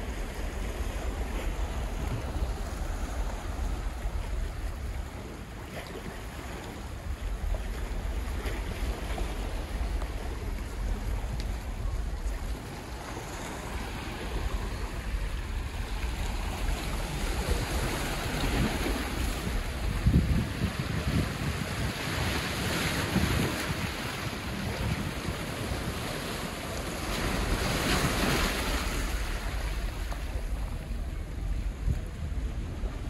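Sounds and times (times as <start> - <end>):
waves washing over rocks: 0.0 - 33.0
wind buffeting microphone: 0.0 - 33.0.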